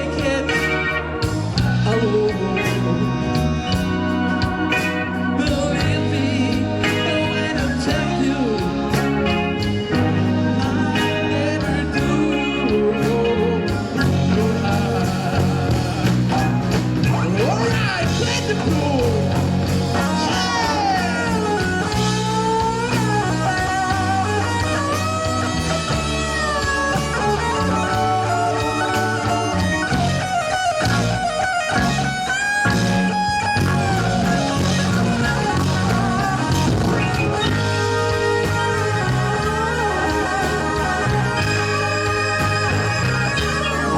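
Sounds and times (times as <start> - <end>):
guitar pitch bending: 0.0 - 43.9
rock band playing: 0.0 - 43.9.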